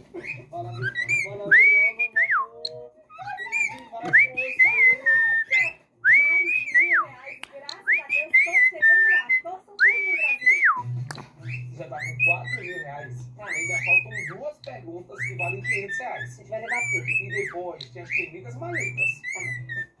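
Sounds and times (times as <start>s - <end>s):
cockatiel whistling a tune: 0.0s - 20.0s.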